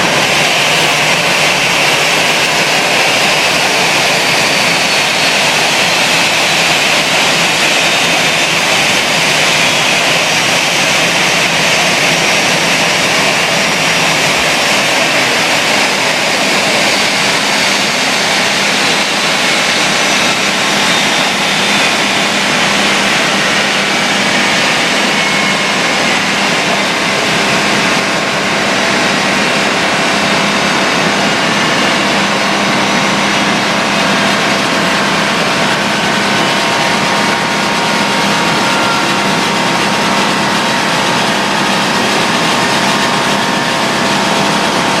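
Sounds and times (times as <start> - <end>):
jet engines running: 0.0 - 45.0.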